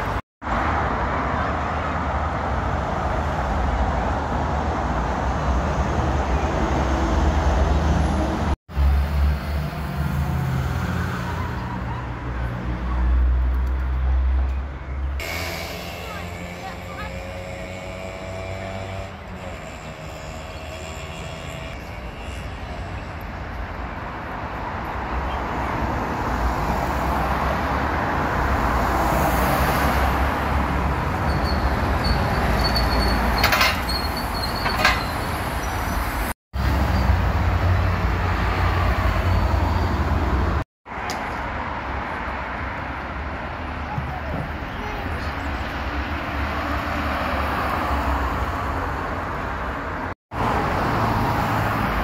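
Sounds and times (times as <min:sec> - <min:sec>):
bus passing by: 0:00.0 - 0:40.6, 0:41.5 - 0:52.0
traffic engine rumble: 0:00.0 - 0:52.0.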